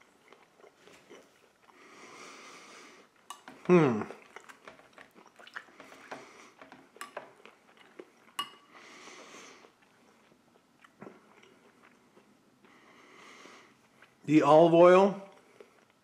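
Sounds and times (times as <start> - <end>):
person chewing with crunches: 0.0 - 14.2, 15.2 - 16.0.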